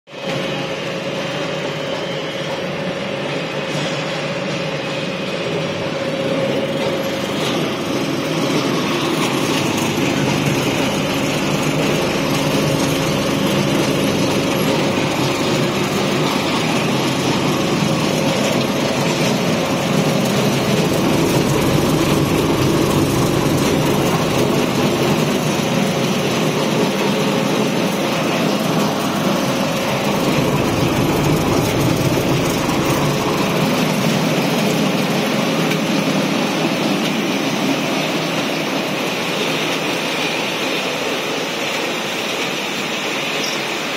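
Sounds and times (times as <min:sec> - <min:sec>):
machinery humming: 0:00.2 - 0:43.9.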